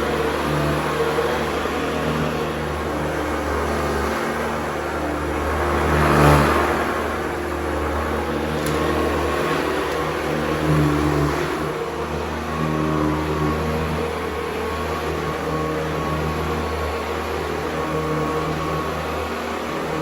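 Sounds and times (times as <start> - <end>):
brush roll rumble: 0.0 - 20.0
vacuum cleaner motor hum: 0.0 - 20.0.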